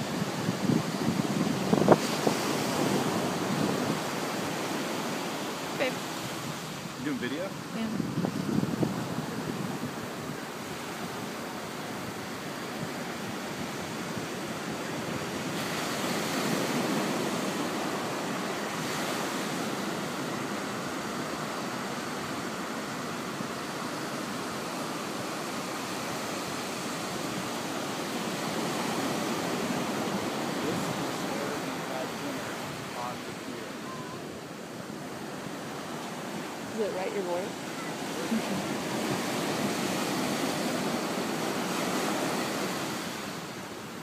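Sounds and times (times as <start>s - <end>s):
small waves breaking on sand: 0.0s - 44.0s.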